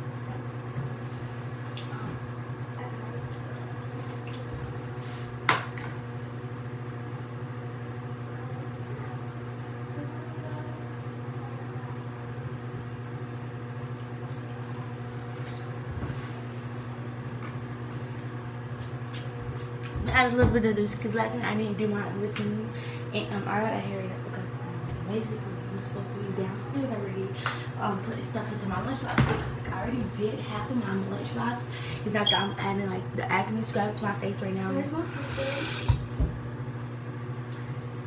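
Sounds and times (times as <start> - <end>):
ventilation fan humming: 0.0 - 38.0.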